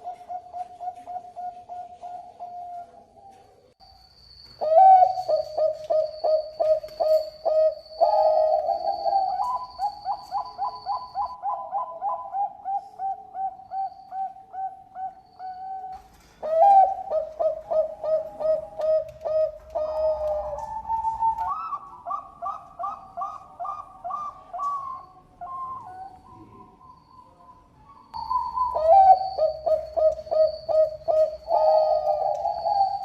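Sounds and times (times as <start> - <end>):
dove rapid cooing: 0.0 - 3.5, 4.6 - 26.9, 28.2 - 33.0.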